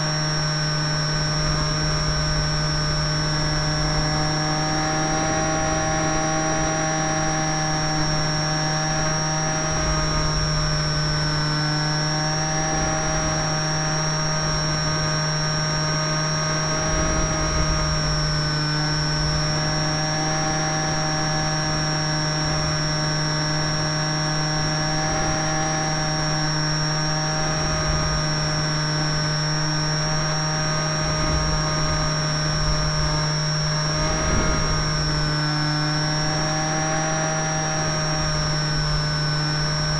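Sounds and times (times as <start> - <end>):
model aircraft motor whine: 0.0 - 39.9
wind rumbling on microphone: 0.0 - 39.9.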